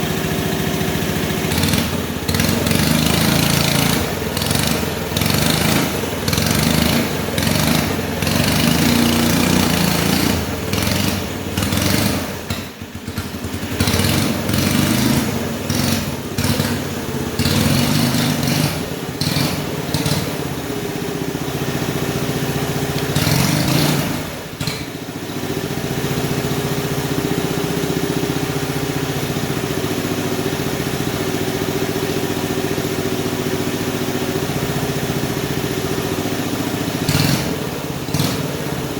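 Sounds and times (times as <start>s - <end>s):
model bulldozer engine running: 0.0s - 38.9s.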